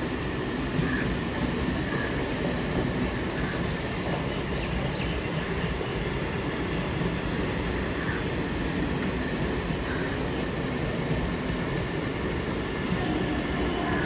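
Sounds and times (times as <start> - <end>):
electric train running on rails: 0.0 - 14.0.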